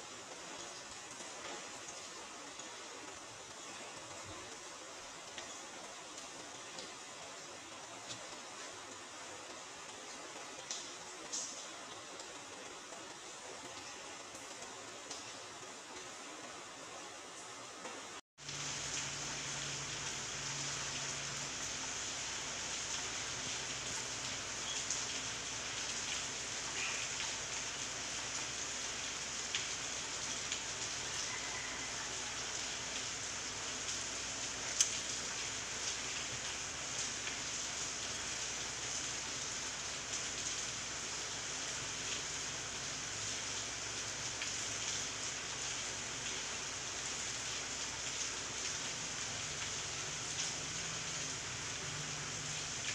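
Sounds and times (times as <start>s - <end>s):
rain falling on leaves: 0.0s - 52.9s.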